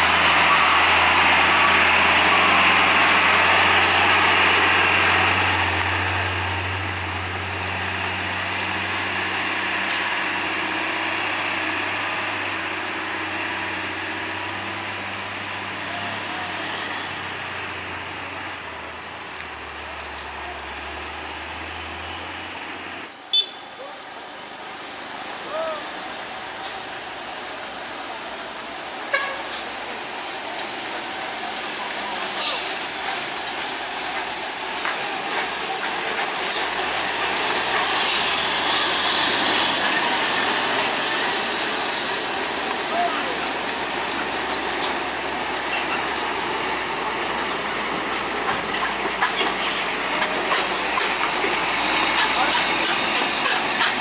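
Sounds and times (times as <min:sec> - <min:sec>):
trucks and vehicles passing: 0:00.0 - 0:54.0.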